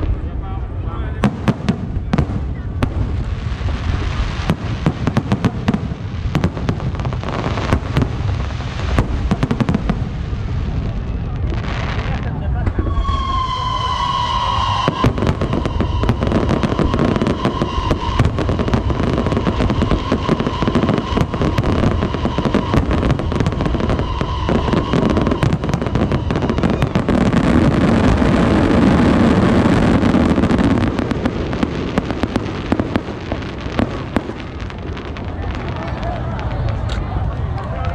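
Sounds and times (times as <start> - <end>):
fireworks crackling and banging: 0.0 - 37.9
firework whistling: 1.2 - 37.0.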